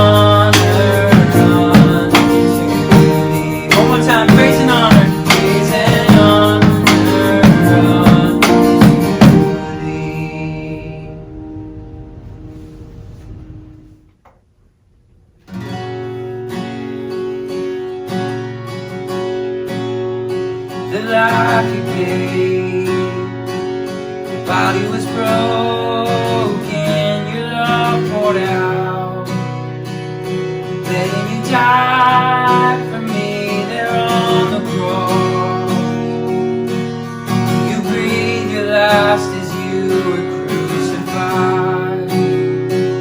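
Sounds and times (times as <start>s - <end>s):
worship music with acoustic guitar: 0.0s - 14.4s, 15.3s - 43.0s.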